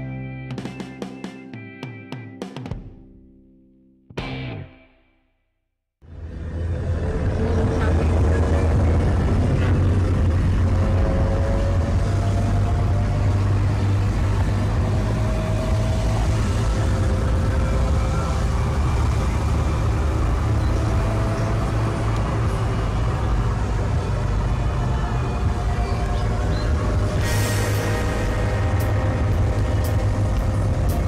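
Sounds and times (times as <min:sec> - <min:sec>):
engine and road rumble: 0:06.0 - 0:31.0.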